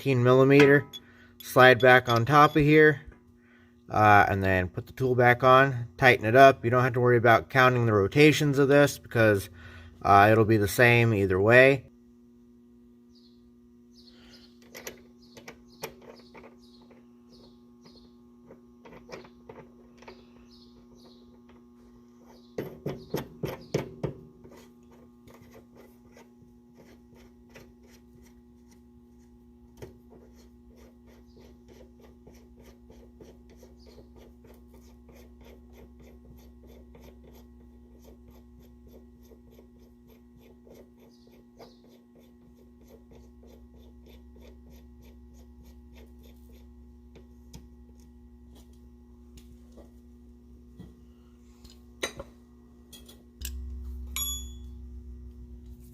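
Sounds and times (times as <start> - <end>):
steady electrical hum: 0.0 - 55.9.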